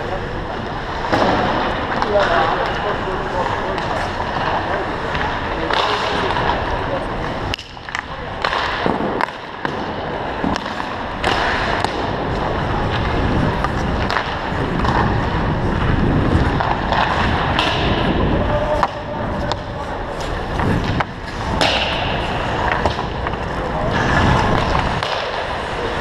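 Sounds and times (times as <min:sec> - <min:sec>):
skate blades scraping ice: 0:00.0 - 0:26.0
hockey stick striking puck: 0:00.8 - 0:26.0.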